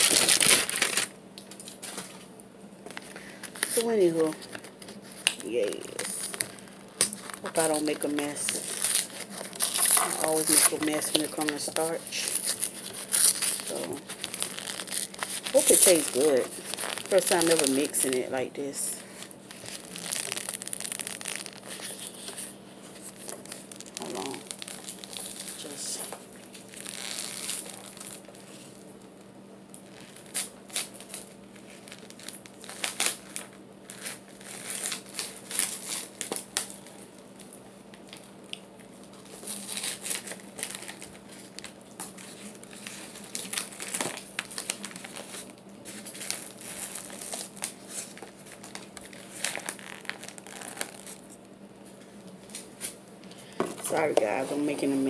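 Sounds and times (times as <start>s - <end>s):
plastic packaging crinkling: 0.0s - 55.0s.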